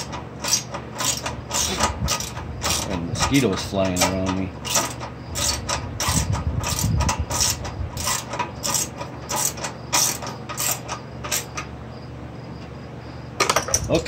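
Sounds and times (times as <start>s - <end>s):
ratchet wrench clicking: 0.0s - 11.7s.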